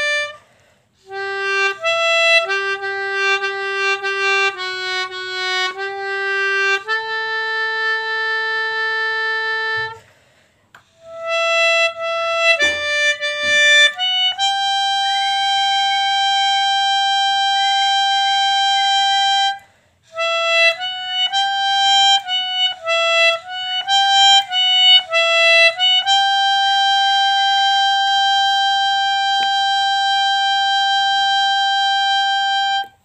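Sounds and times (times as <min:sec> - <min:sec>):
melodica playing a melody: 0:00.0 - 0:00.4, 0:01.0 - 0:10.1, 0:10.8 - 0:33.0.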